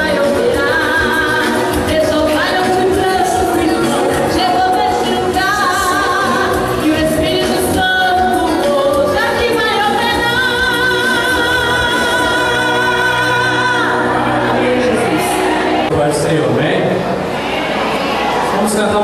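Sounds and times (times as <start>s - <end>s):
woman singing gospel song: 0.0s - 15.9s
live instrumental backing: 0.0s - 19.0s.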